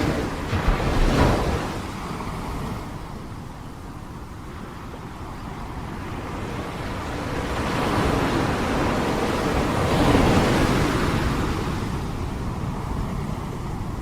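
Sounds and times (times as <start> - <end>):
sea waves washing in: 0.0 - 14.0
wind noise on microphone: 0.0 - 14.0.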